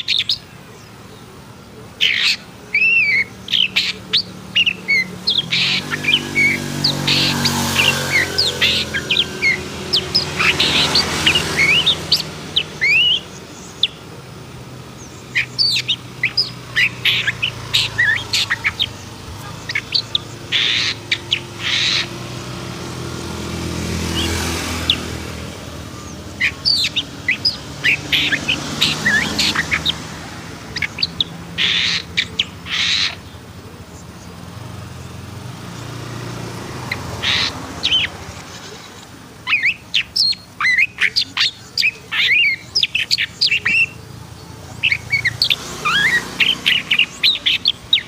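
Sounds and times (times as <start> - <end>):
bird singing chirps and whistles: 0.0 - 0.9, 2.0 - 34.3, 36.9 - 48.0
harsh rasping bird calls: 0.0 - 48.0.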